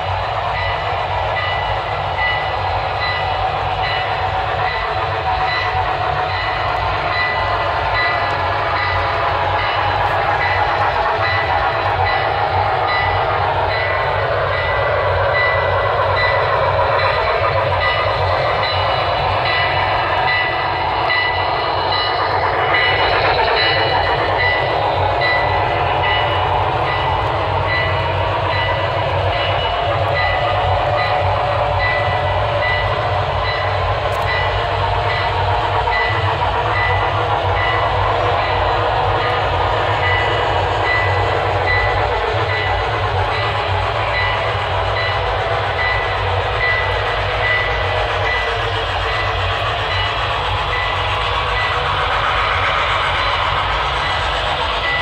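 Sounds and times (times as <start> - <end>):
model locomotive engine sounds: 0.0 - 55.0
model train wheels rolling: 0.0 - 55.0.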